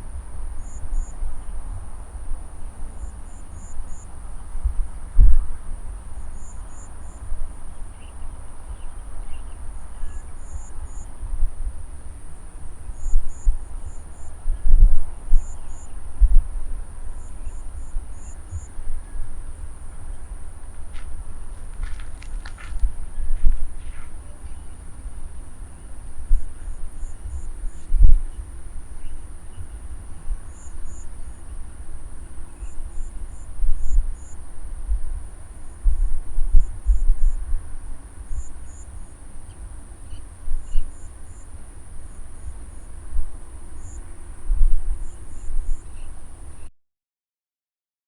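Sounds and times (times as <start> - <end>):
low irregular rumble: 0.0 - 46.6
high-pitched insect chorus: 0.4 - 46.6.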